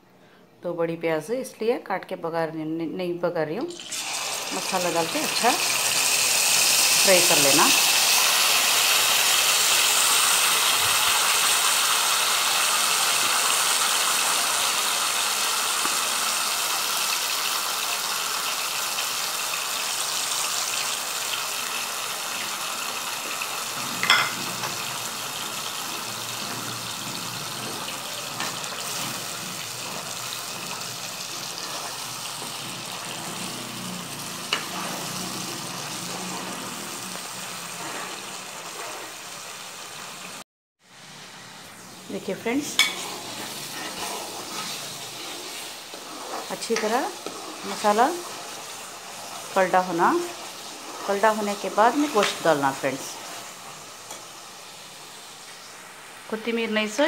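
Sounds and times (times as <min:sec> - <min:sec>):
paste sizzling in hot oil: 0:03.8 - 0:57.0.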